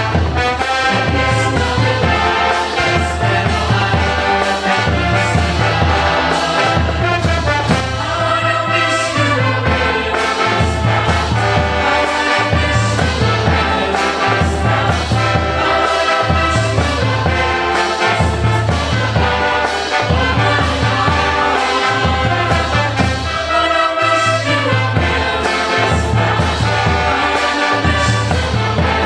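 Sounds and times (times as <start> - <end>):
upbeat brass band music: 0.0 - 29.0.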